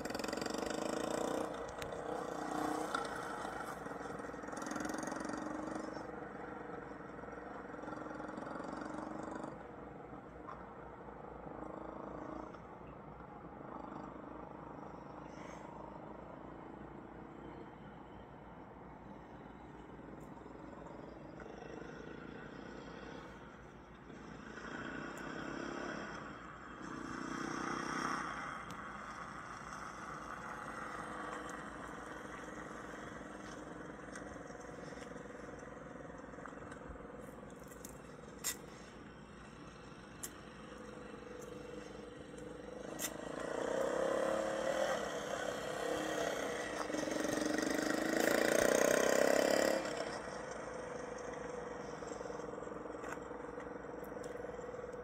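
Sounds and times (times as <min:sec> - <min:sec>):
distant dirt bike engine: 0:00.0 - 0:55.0.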